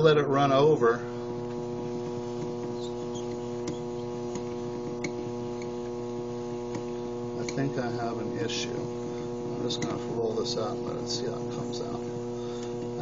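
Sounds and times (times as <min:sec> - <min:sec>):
lathe motor humming: 0:00.0 - 0:13.0.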